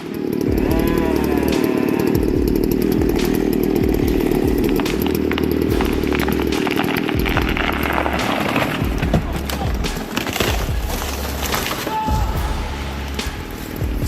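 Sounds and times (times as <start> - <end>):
chainsaw engine running: 0.0 - 14.0.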